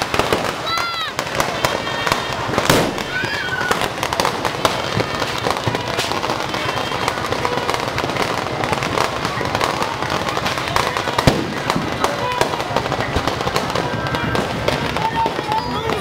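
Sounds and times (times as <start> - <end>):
fireworks crackling and popping: 0.0 - 16.0
voices: 0.0 - 16.0.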